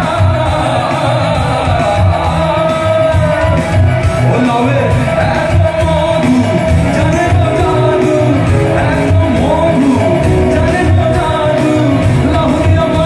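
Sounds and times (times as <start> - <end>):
live rock band playing: 0.0 - 13.0
male lead singer: 0.0 - 13.0.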